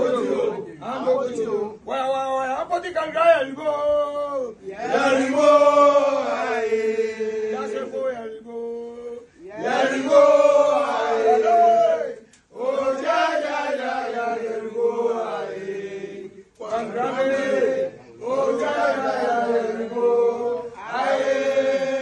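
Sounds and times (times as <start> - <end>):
men chanting: 0.0 - 1.8, 4.7 - 22.0.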